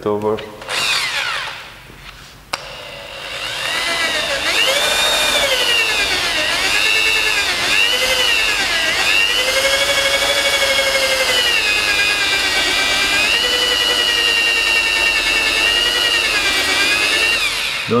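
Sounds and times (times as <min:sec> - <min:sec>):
power drill whining: 0:00.6 - 0:01.7, 0:02.6 - 0:18.0.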